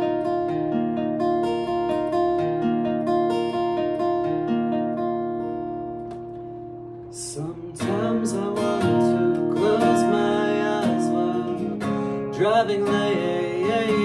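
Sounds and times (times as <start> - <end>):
picked guitar chord ringing: 0.0 - 14.0
strummed acoustic guitar chords: 0.0 - 14.0.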